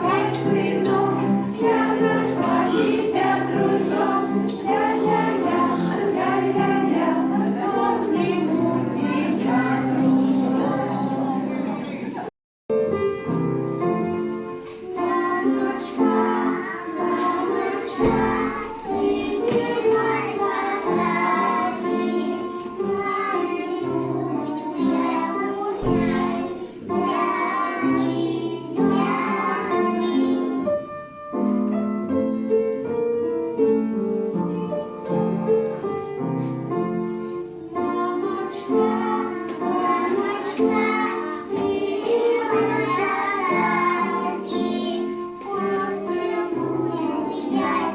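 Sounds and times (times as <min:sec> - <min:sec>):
children singing together: 0:00.0 - 0:12.2, 0:14.6 - 0:31.0, 0:34.9 - 0:47.9
musical accompaniment: 0:00.0 - 0:47.9.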